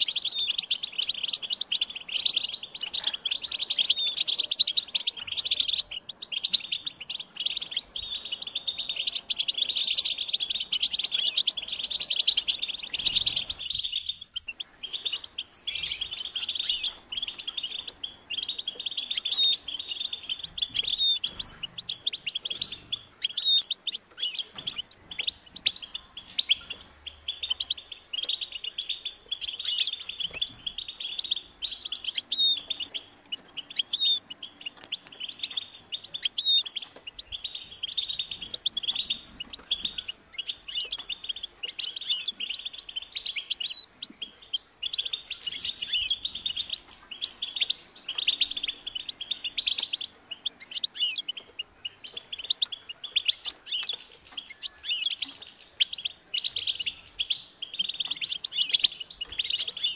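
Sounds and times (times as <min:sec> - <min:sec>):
finch singing: 0:00.0 - 0:59.9.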